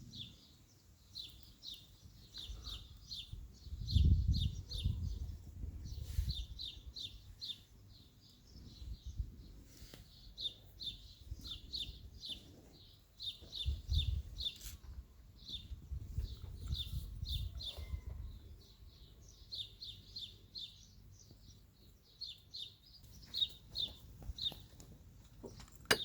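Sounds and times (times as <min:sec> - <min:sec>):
bird chirping: 0:00.0 - 0:24.8.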